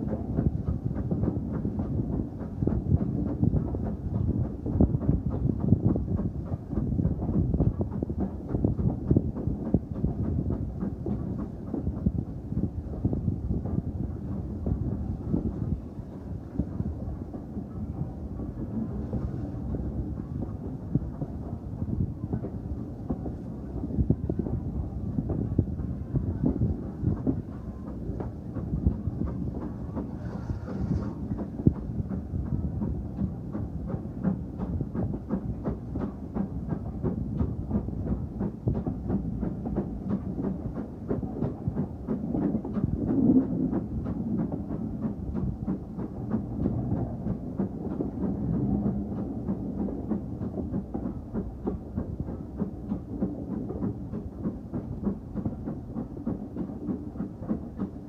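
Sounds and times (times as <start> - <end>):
steam train rumbling and clattering: 0.0 - 58.0.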